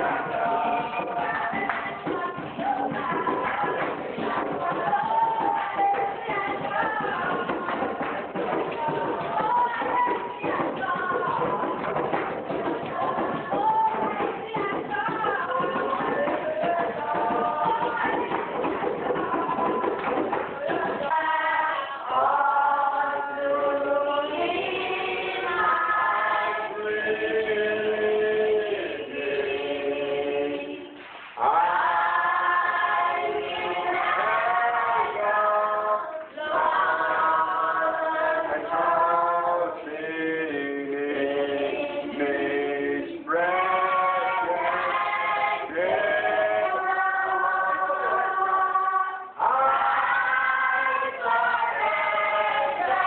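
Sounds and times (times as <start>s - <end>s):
group singing without instruments: 0.0s - 53.0s.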